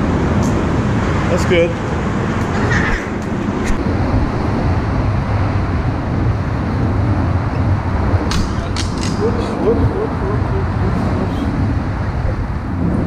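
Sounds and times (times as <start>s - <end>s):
traffic rumble on bridge: 0.0s - 13.0s.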